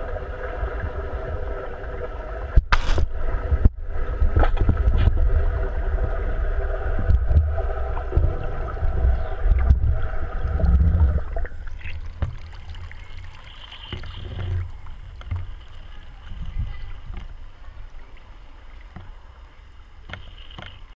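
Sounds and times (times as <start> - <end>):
faint splashes: 0.0 - 20.9
muffled underwater rumble: 0.0 - 20.9.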